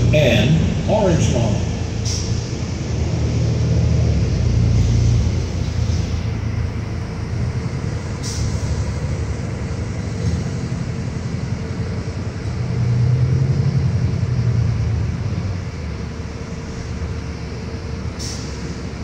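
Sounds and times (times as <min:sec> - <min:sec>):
bus engine drone: 0:00.0 - 0:19.0
road rumble: 0:00.0 - 0:19.0.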